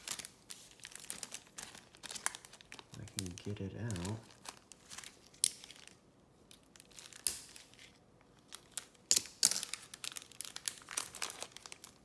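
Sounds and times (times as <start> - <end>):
foil wrapper crinkling: 0.0 - 6.0, 6.6 - 12.0.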